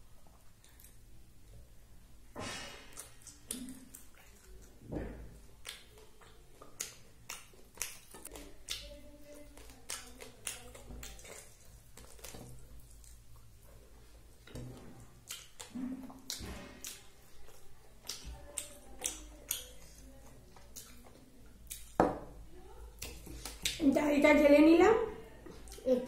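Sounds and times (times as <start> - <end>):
person chewing: 0.0 - 1.7, 2.7 - 22.0, 22.9 - 23.8, 25.5 - 26.0
fingers mixing food on a plate: 2.9 - 24.0.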